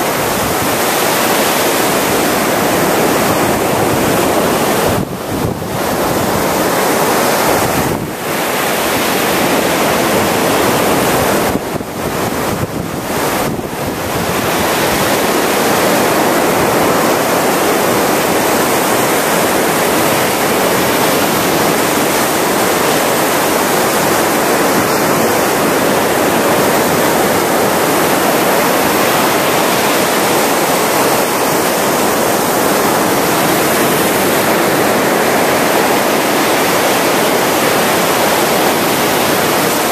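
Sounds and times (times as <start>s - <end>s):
ocean surf on sandy beach: 0.0s - 39.9s.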